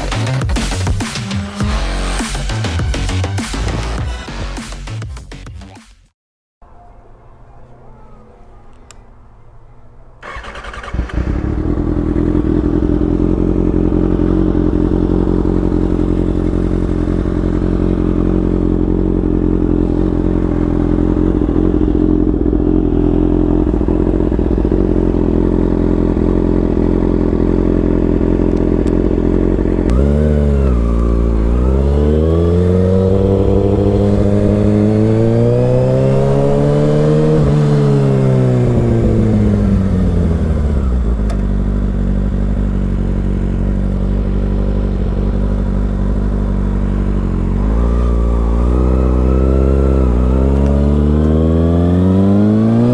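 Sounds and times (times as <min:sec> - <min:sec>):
motorcycle engine idling and revving: 0:00.0 - 0:05.5, 0:10.2 - 0:52.9.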